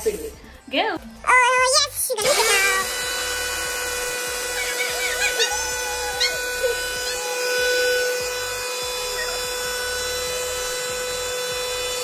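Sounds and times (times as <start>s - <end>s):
mixer grinder whining: 2.2s - 12.0s.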